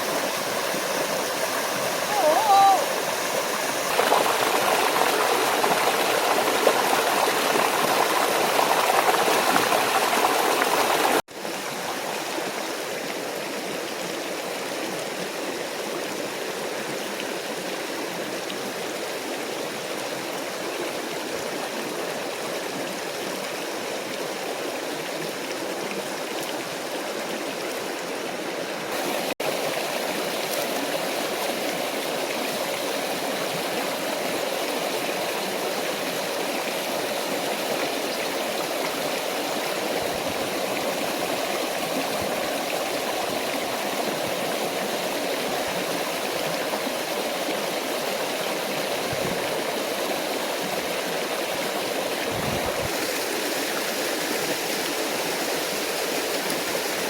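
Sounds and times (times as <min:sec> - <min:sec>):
stream and waterfall rushing: 0:00.0 - 0:57.0.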